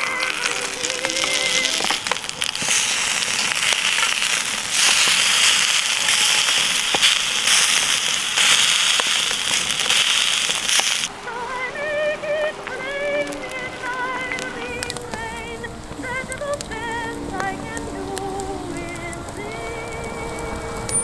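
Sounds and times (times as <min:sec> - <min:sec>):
meat sizzling and popping: 0:00.0 - 0:11.1, 0:12.6 - 0:21.0.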